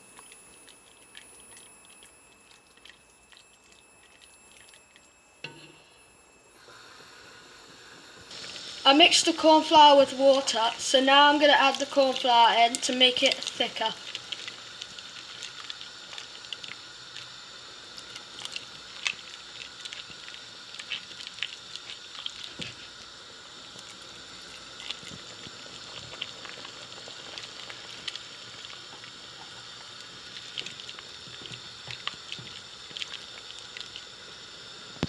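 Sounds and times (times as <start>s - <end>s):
soup simmering in a pan: 0.0s - 35.0s.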